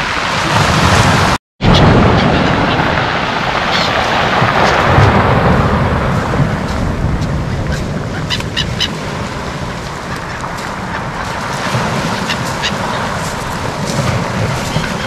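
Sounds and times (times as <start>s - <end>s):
surf washing: 0.0s - 15.0s
wind: 0.0s - 15.0s
gulls squawking: 1.6s - 5.7s, 6.6s - 15.0s.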